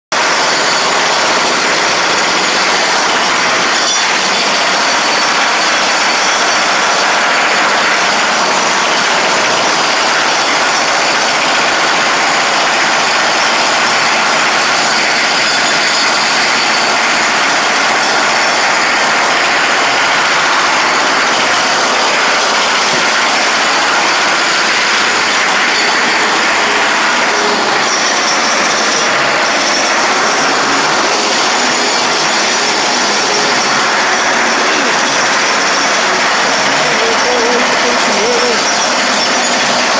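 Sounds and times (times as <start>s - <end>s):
loud steady machinery: 0.1s - 39.9s.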